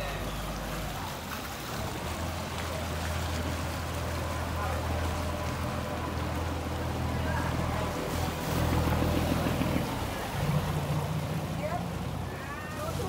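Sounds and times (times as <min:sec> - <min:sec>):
boat engine droning: 0:00.0 - 0:13.0
churned water wash: 0:00.0 - 0:13.0.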